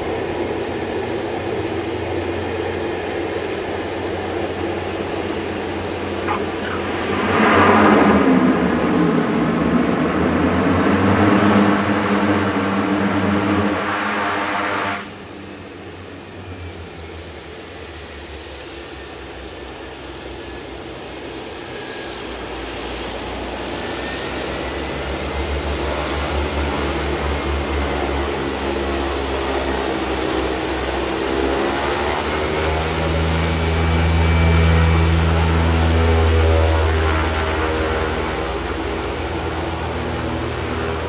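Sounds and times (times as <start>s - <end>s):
turboprop engines running: 0.0s - 41.0s.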